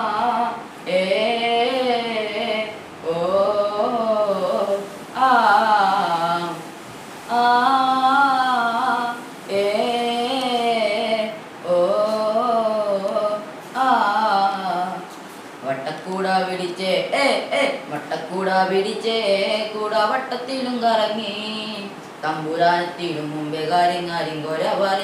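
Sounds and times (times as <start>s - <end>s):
boy singing a cappella: 0.0s - 25.0s.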